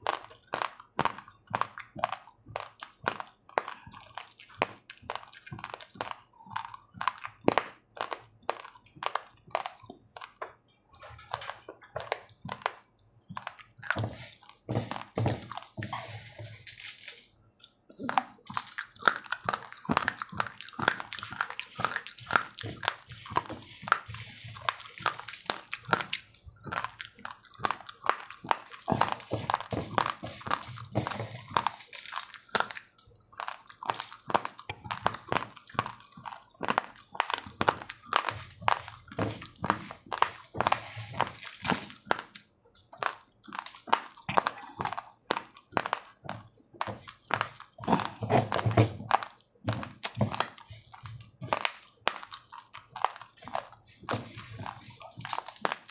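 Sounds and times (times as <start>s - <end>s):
raw rice crunching: 0.0s - 10.4s, 11.3s - 55.9s.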